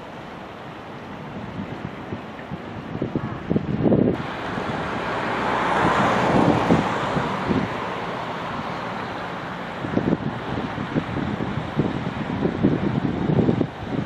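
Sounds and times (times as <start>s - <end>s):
rushing wind noise: 0.0s - 14.0s
wind buffeting microphone: 0.0s - 14.0s.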